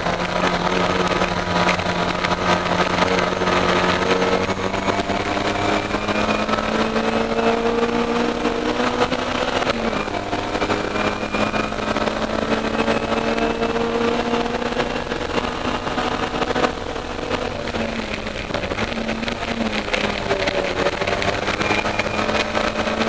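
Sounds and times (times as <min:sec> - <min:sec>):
race car engine at high revs: 0:00.0 - 0:23.0
road and wind noise: 0:00.0 - 0:23.0.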